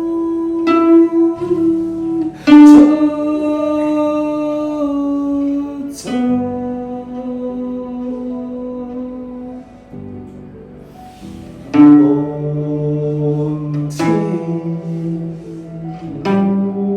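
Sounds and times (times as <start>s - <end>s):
plucked string instrument music: 0.0s - 16.9s.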